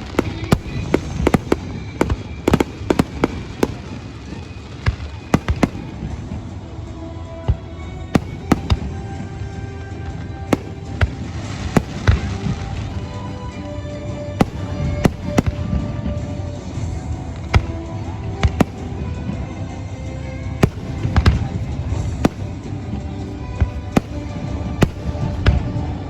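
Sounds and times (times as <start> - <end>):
firecrackers banging: 0.0 - 26.0
music with held notes: 0.0 - 26.0.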